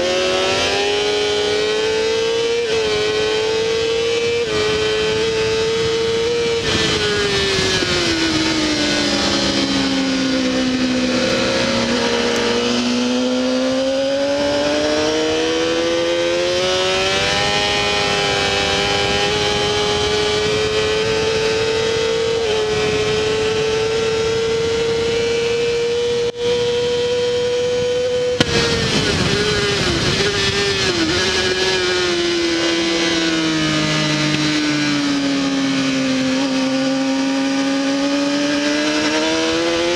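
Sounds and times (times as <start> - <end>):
motorcycle engine at racing speed: 0.0 - 39.9.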